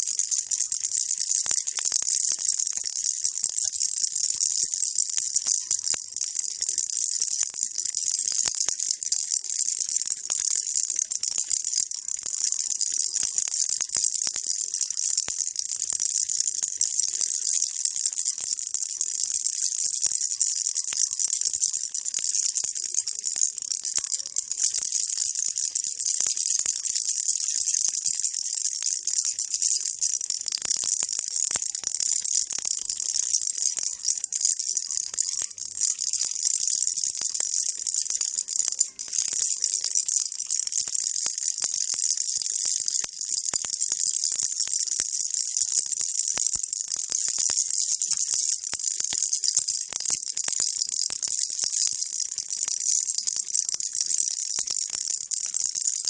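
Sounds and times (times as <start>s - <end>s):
baby rattle shaken: 0.0s - 56.0s.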